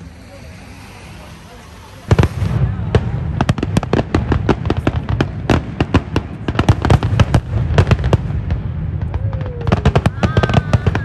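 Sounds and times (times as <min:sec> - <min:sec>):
steady low rumble: 0:00.0 - 0:11.0
fireworks bangs and crackling pops: 0:01.7 - 0:11.0.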